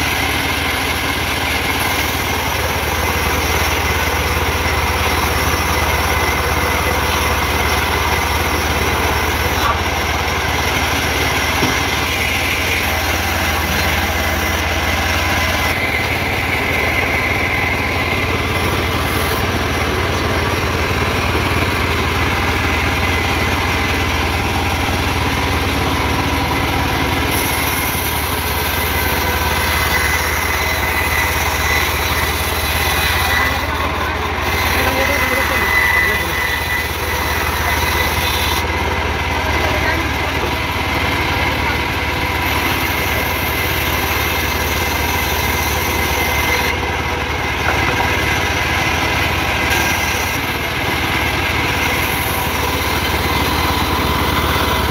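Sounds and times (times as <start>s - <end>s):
band saw cutting timber: 0.0s - 54.9s.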